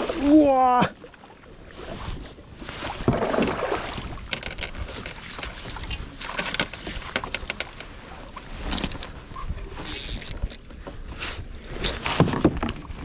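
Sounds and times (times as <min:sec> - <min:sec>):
water sloshing around kayak: 0:00.0 - 0:13.0
wind on microphone: 0:01.6 - 0:13.0.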